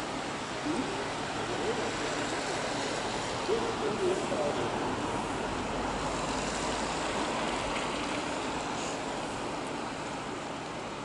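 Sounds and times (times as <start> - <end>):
propeller-churned water rushing: 0.0 - 11.0.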